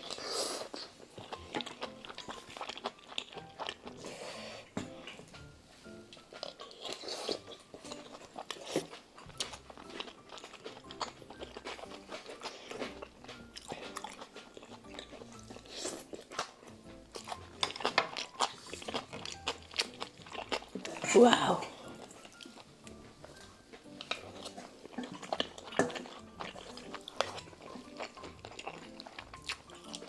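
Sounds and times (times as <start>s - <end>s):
chewing and biting noodles: 0.0s - 30.0s
soft background music: 0.0s - 30.0s.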